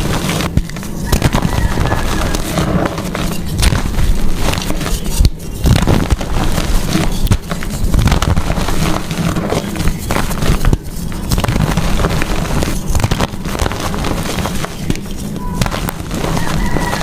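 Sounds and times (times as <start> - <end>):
chalk being crushed: 0.0 - 17.0.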